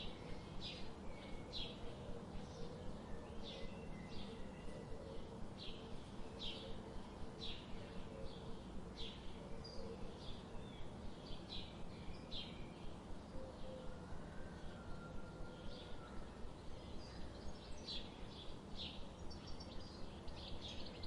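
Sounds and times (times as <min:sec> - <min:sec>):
songbirds chirping: 0:00.0 - 0:21.0
steady background hiss: 0:00.0 - 0:21.0.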